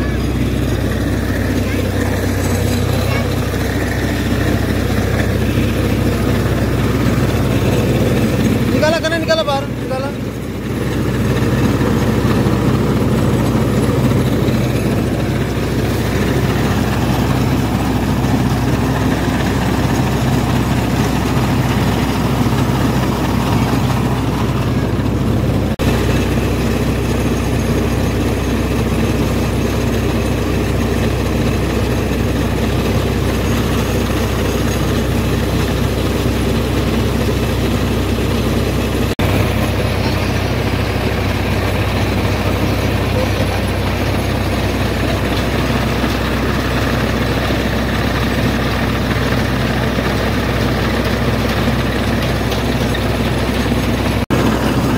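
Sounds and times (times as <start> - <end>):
low engine drone: 0.0 - 54.9.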